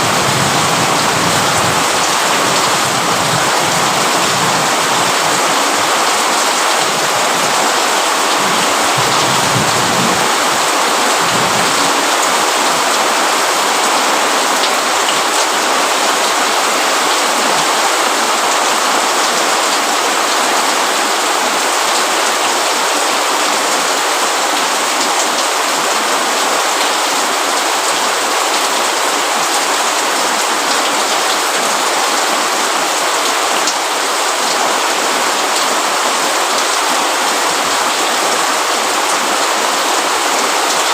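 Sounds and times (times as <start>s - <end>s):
rain on roof and leaves: 0.0s - 40.9s.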